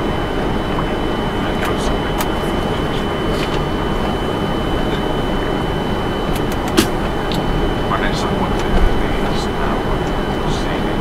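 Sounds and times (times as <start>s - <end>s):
cockpit rushing hum: 0.0s - 11.0s
thin constant whine: 0.0s - 11.0s.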